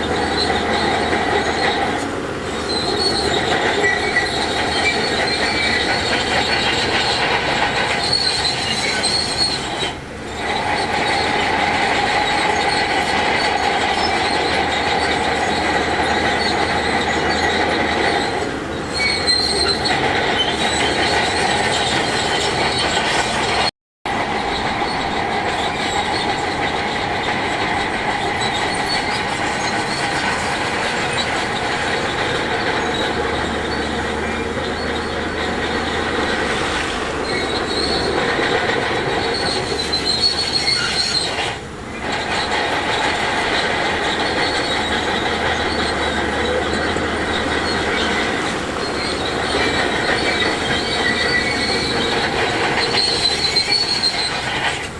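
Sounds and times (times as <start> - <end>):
bulldozer tracks squealing and clanking: 0.0 - 54.9
diesel engine: 0.0 - 54.9.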